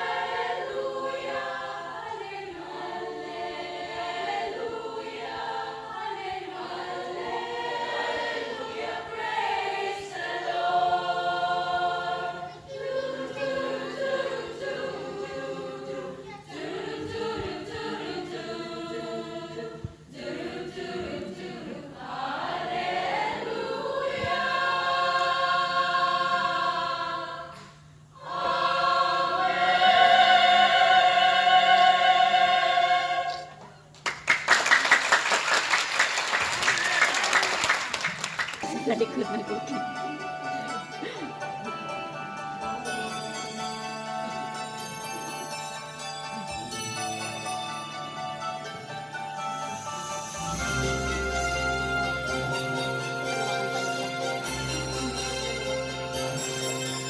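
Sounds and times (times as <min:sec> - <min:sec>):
choir singing a carol: 0:00.0 - 0:33.9, 0:38.6 - 0:57.0.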